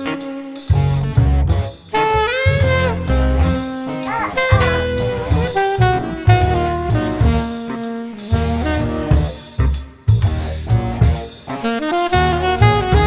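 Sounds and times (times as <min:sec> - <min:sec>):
jazz music with saxophone: 0:00.0 - 0:13.0.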